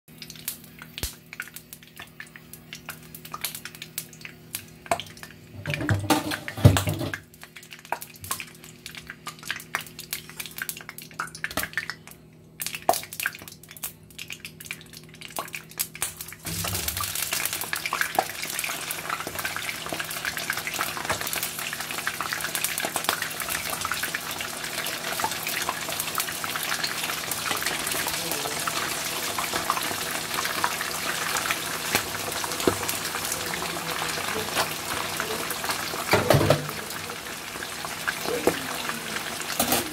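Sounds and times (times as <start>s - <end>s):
chicken deep-frying sizzle: 0.1s - 39.9s
hot oil crackling: 0.1s - 39.9s.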